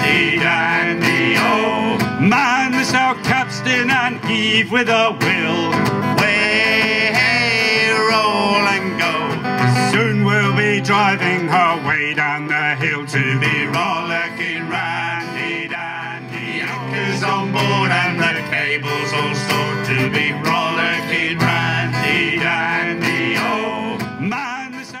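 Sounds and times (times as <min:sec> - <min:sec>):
men singing together: 0:00.0 - 0:25.0
strummed acoustic guitar: 0:00.0 - 0:25.0.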